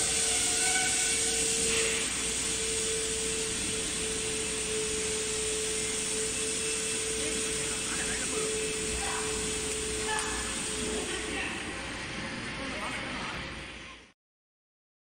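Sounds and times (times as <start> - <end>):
constant mid-pitched tone: 0.0 - 13.3
machine mechanical hiss: 0.0 - 13.9.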